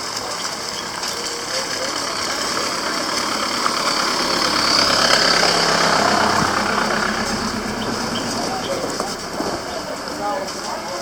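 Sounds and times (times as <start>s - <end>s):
street noise: 0.0s - 11.0s
vehicle engine running: 0.0s - 11.0s.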